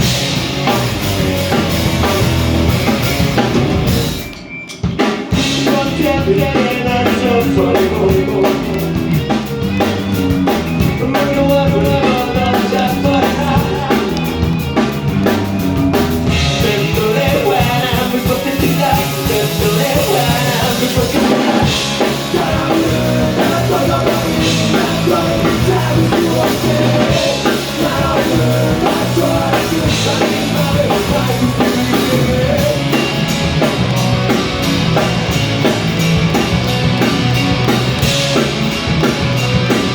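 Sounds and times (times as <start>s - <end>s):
drum kit beat: 0.0s - 39.9s
live rock band playing: 0.0s - 39.9s.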